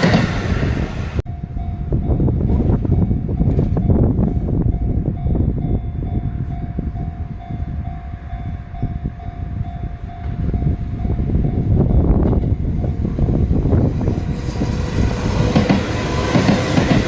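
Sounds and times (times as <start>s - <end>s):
train wheels rumbling and clicking: 0.0s - 7.1s, 8.9s - 17.0s
crossing warning bell ringing: 1.3s - 17.0s.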